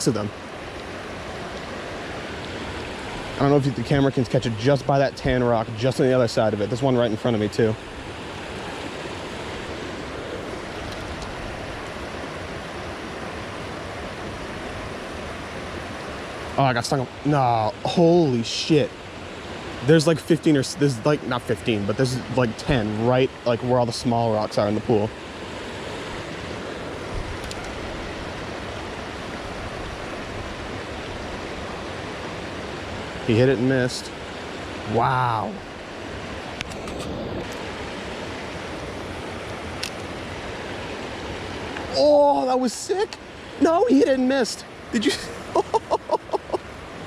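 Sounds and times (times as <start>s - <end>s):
river water rushing over rapids: 0.0s - 47.0s.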